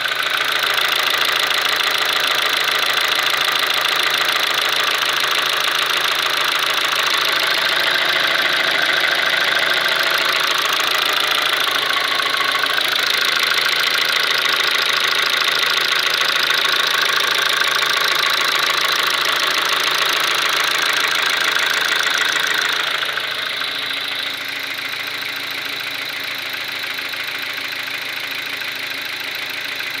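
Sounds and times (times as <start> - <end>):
car engine running with knock: 0.0 - 30.0.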